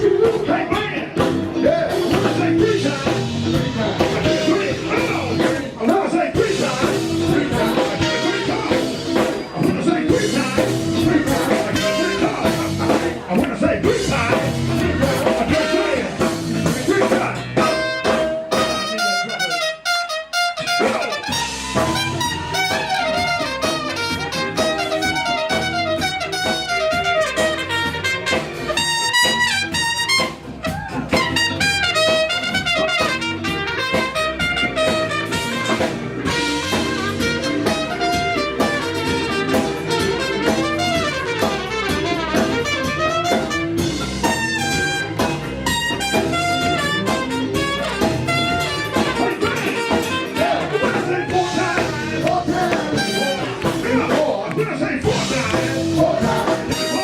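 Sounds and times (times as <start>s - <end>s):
trumpet and saxophone horn section: 0.0s - 13.2s, 13.8s - 57.0s
live soul band playing: 0.0s - 57.0s.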